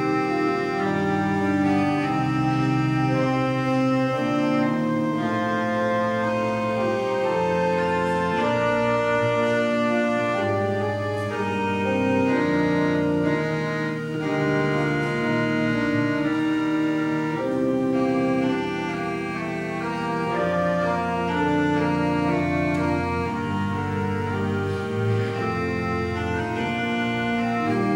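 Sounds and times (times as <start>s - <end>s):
church organ chords: 0.0s - 27.9s.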